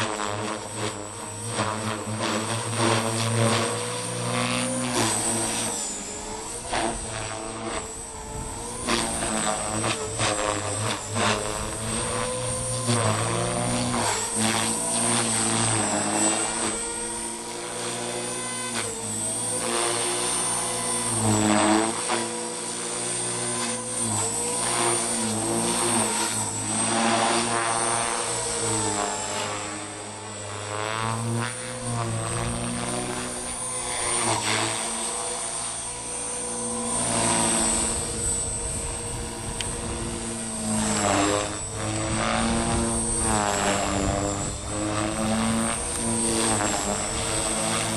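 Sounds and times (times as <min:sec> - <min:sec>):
high motor whine: 0:00.0 - 0:47.9
rc helicopter rotor whir: 0:00.0 - 0:47.9.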